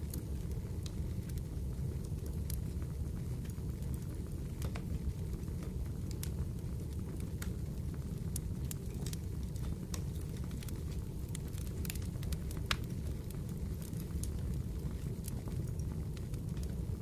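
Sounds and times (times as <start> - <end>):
low rumble of fire: 0.0 - 17.0
wood fire crackling: 0.0 - 17.0.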